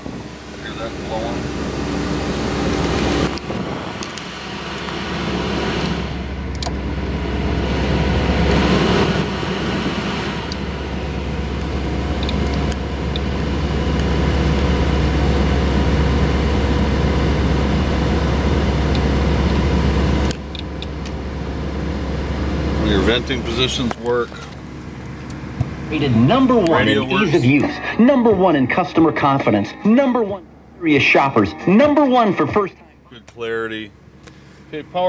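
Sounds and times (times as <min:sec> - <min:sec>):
blower fan blowing air: 0:00.0 - 0:28.5
engine low hum: 0:00.0 - 0:35.0.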